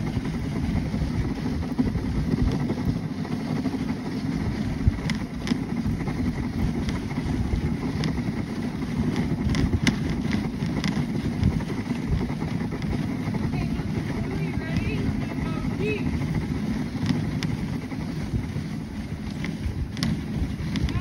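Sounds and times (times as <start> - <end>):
sled runners sliding over snow: 0.0 - 21.0.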